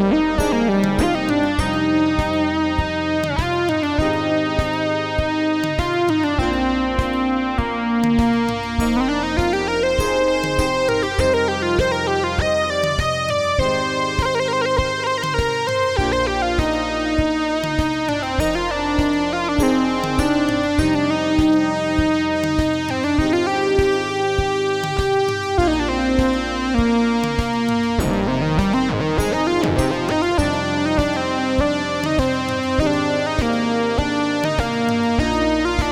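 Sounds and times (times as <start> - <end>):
pulsing synth rhythm: 0.0 - 35.9
synthesizer chords: 0.0 - 35.9.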